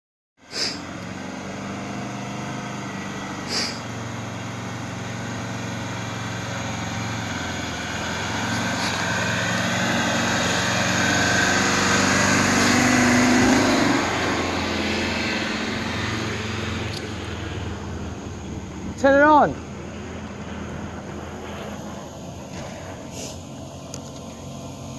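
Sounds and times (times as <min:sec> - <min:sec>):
vehicle engine labouring uphill: 0:00.4 - 0:24.9.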